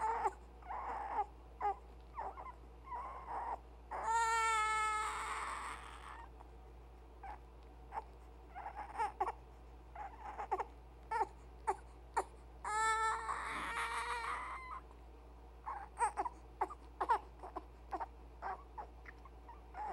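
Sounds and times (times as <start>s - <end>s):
infant crying: 0.0s - 6.3s, 7.3s - 9.4s, 10.0s - 14.8s, 15.7s - 19.9s
infant squeaking and whimpering: 0.0s - 6.3s, 7.2s - 9.4s, 10.0s - 14.8s, 15.6s - 19.9s.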